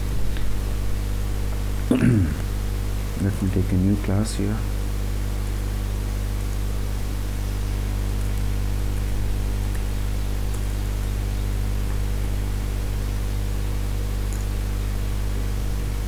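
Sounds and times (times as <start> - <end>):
electrical hum with hiss: 0.0 - 16.0.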